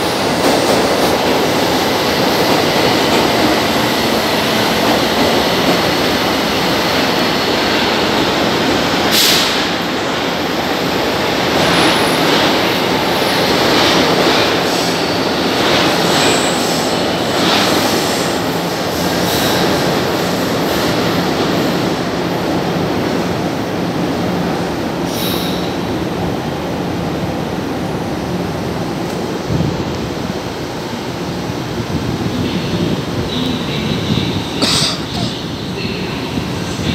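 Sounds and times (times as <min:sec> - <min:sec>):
subway train wheels rumbling: 0:00.0 - 0:36.9.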